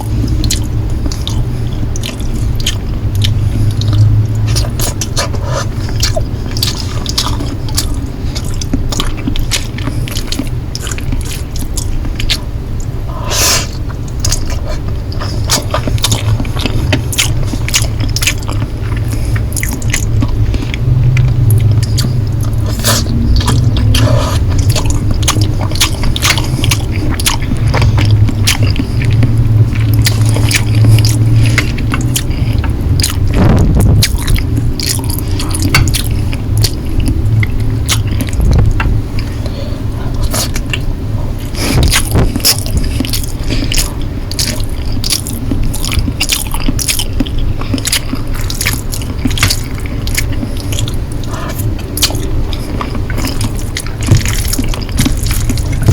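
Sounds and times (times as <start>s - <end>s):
wet chewing clicks and smacks: 0.0s - 12.9s, 13.7s - 55.9s
rush of noise: 0.0s - 45.2s
steady low hum: 0.0s - 55.9s.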